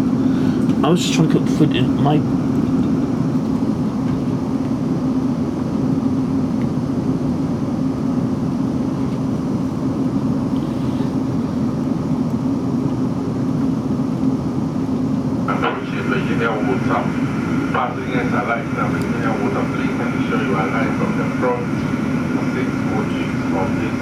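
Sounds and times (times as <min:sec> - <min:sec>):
low electric hum: 0:00.0 - 0:24.0.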